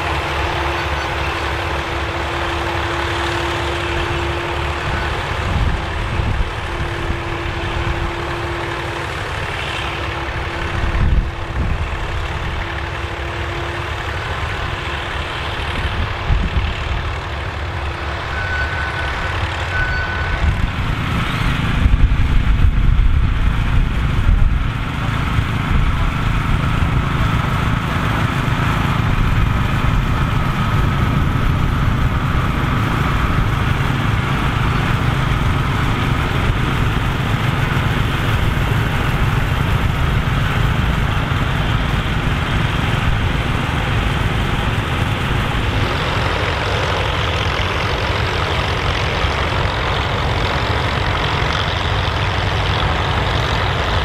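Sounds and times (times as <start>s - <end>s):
tractor engines running under load: 0.0s - 54.0s.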